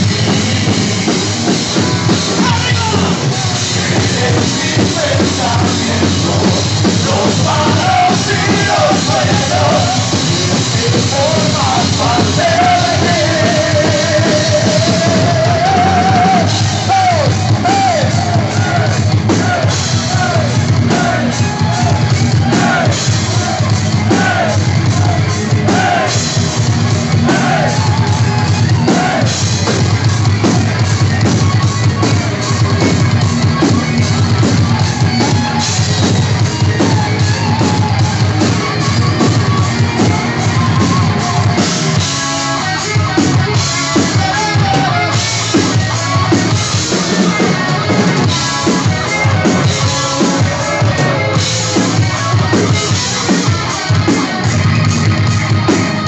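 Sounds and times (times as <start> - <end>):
singer singing: 0.0 - 54.4
drum beat: 0.0 - 56.0
guitars: 0.0 - 56.0
live rock band: 0.0 - 56.0.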